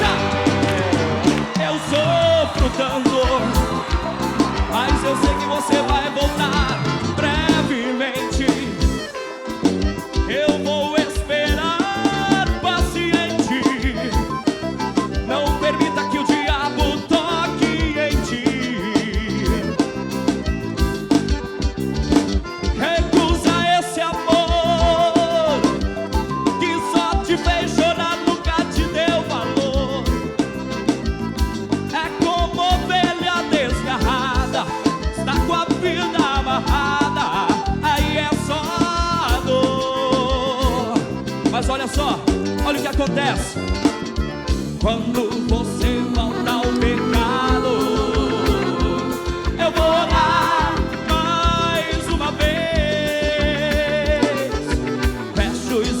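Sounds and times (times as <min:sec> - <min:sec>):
band playing dance music: 0:00.0 - 0:56.0.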